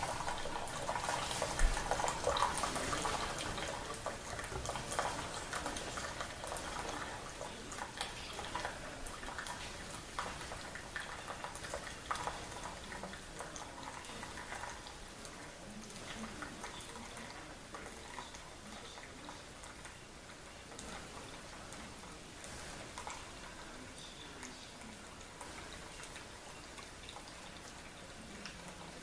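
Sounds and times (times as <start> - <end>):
coffee brewer hissing and gurgling: 0.0 - 29.0.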